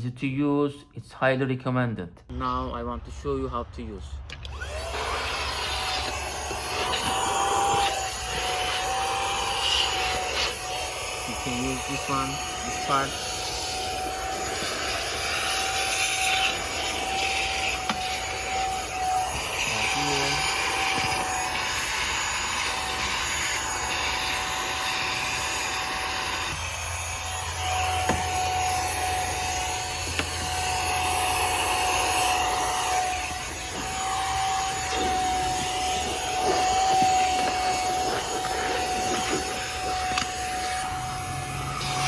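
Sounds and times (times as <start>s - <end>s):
handheld vacuum motor whine: 4.3s - 42.0s.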